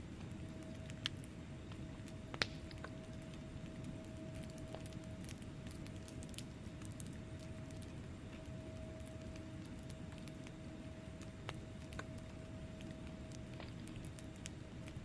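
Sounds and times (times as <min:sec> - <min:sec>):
faint steady hum: 0:00.0 - 0:15.0
log fire crackling: 0:00.0 - 0:15.0.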